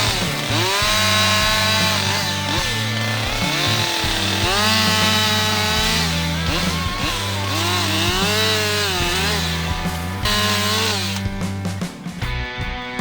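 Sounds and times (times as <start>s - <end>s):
chainsaw running and cutting: 0.0s - 12.4s
background music: 0.0s - 13.0s.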